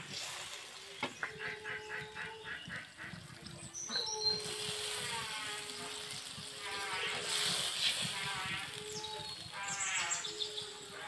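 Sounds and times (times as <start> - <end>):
farmyard birds calling: 0.0 - 11.0.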